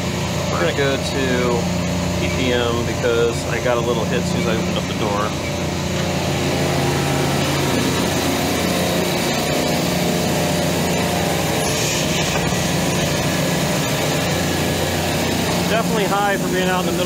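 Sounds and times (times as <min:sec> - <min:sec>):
refrigeration compressor drone: 0:00.0 - 0:17.0.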